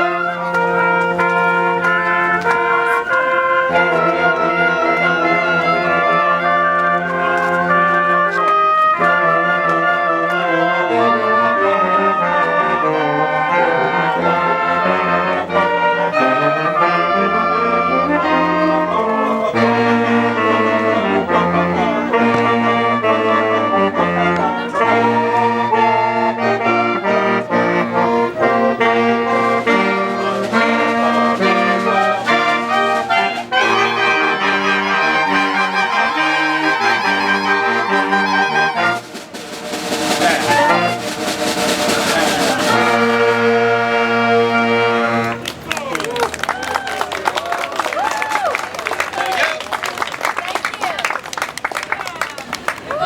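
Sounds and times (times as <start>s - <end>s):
held brass or reed notes: 0.0s - 45.8s.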